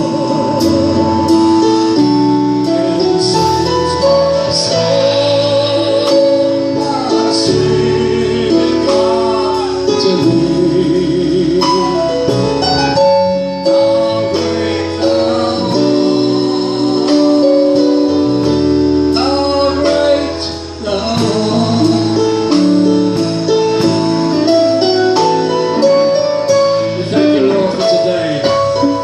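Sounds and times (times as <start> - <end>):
keyboard accompaniment: 0.0 - 29.0
person singing a hymn: 0.0 - 29.0.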